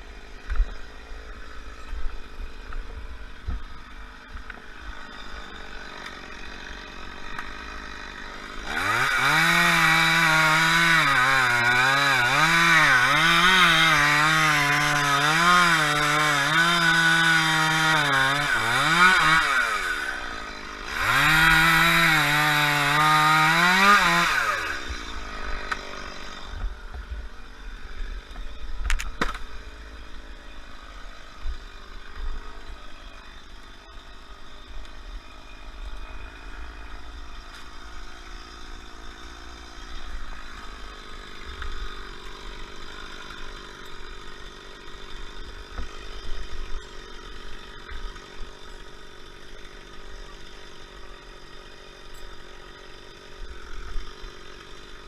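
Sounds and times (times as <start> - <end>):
chainsaw cutting at full throttle: 0.0 - 55.0.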